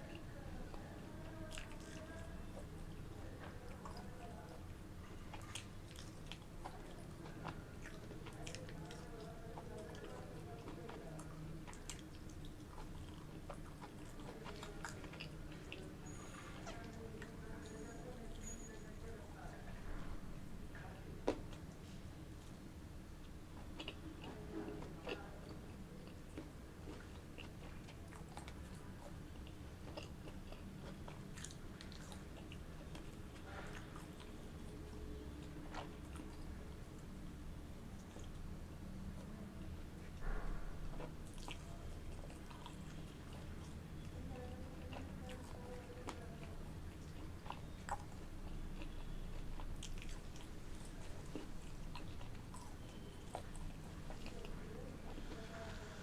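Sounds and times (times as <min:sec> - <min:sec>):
chewing with wet mouth sounds: 0:00.0 - 0:20.1, 0:20.8 - 0:56.0
faint low hum: 0:00.0 - 0:56.0.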